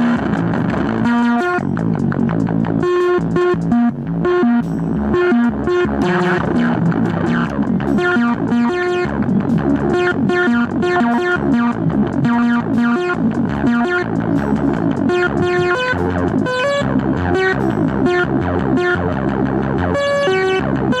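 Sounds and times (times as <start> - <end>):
synthesizer sequence: 0.0 - 21.0.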